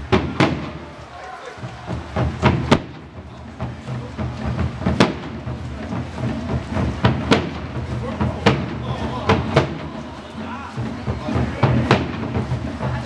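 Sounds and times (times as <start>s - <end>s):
marching parade drums booming: 0.0s - 13.0s.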